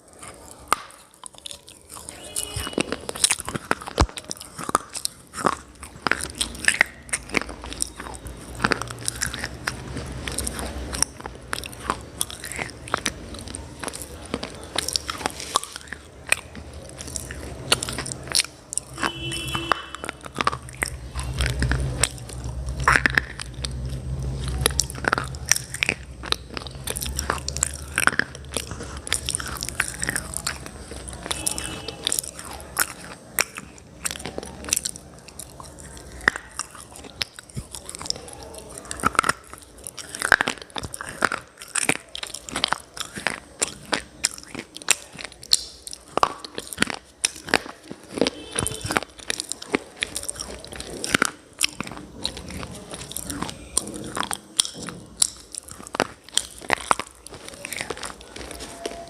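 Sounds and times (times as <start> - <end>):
person crunching and chewing: 0.0 - 59.0.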